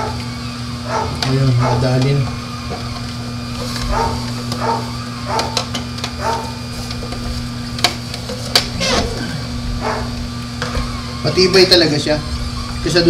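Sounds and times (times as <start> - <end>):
juicer motor hum: 0.0 - 13.0.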